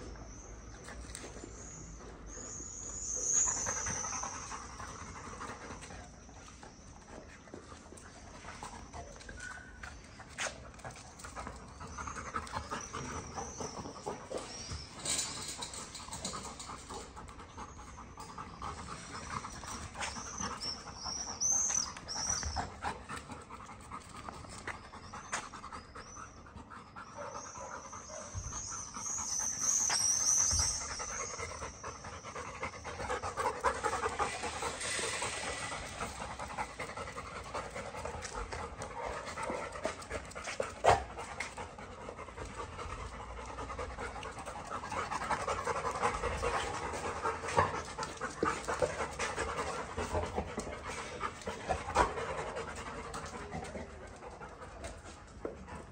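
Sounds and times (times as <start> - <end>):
dogs panting: 3.4 - 55.9.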